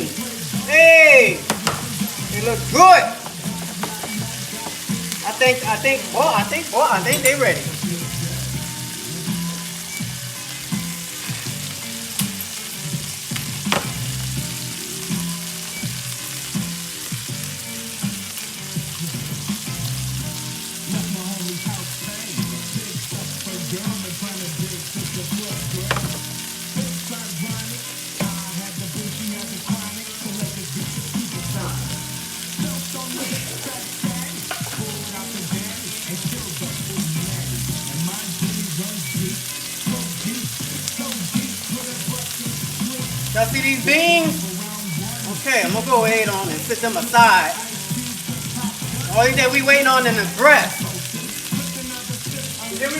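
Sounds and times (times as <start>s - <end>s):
beans sizzling in a pan: 0.0s - 52.9s.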